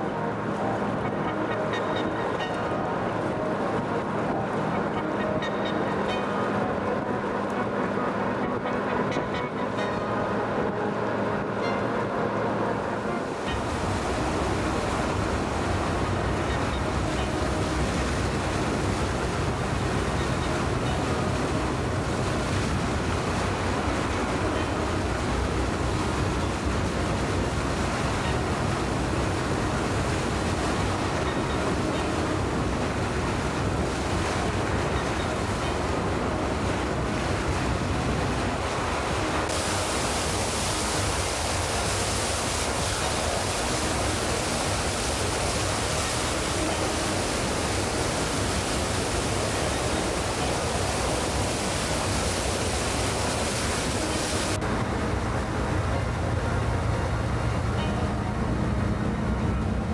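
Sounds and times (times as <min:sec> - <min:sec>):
sea wash: 0:00.0 - 0:59.9.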